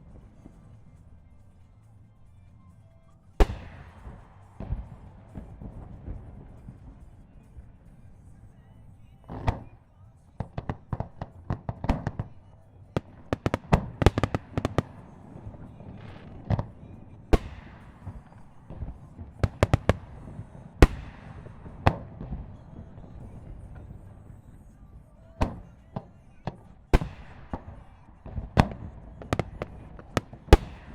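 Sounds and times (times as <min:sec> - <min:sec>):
fireworks bangs: 0:03.2 - 0:30.9
echoing rumble: 0:03.4 - 0:09.8, 0:10.4 - 0:30.9
heavy fireworks booms: 0:03.4 - 0:30.9.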